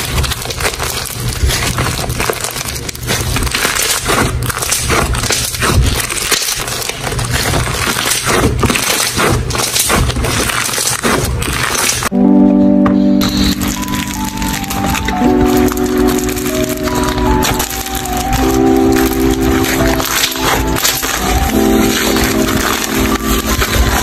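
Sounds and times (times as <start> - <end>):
crunchy slime squeezed by hand: 0.0 - 12.1, 13.2 - 24.0.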